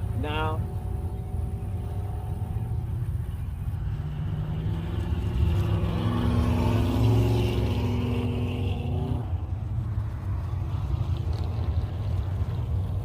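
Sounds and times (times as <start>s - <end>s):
car accelerating past: 0.0s - 13.0s
low engine rumble: 0.0s - 13.0s.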